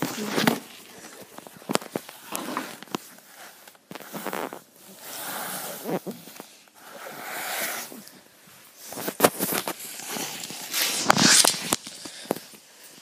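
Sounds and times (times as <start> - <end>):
fabric rustling on microphone: 0.0 - 13.0.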